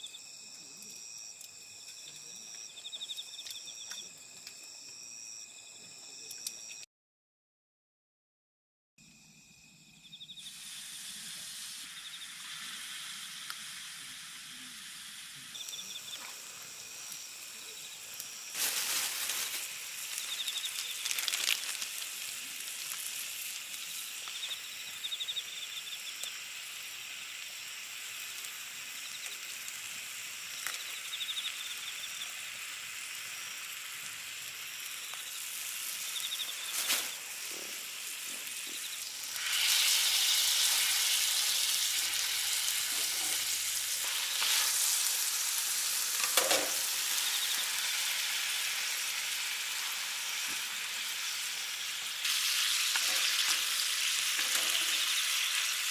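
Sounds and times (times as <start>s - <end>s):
insects chirping in trills: 0.0s - 6.8s, 9.0s - 55.9s
meat sizzling on grill pan: 10.4s - 55.9s.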